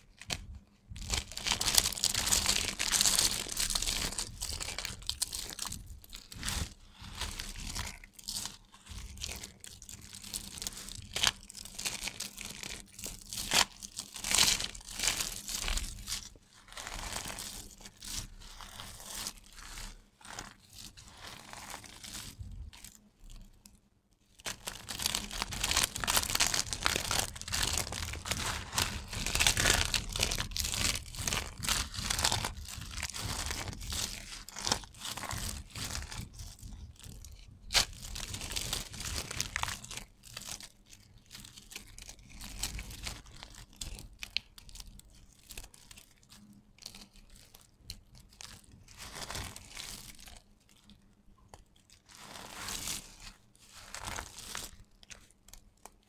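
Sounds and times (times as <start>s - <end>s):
soap bars crunching in hands: 0.1s - 23.6s, 24.4s - 56.0s.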